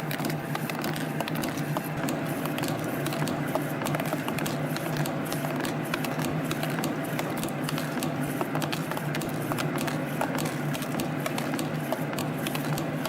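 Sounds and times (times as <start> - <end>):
machine clicking and ticking: 0.0 - 13.0.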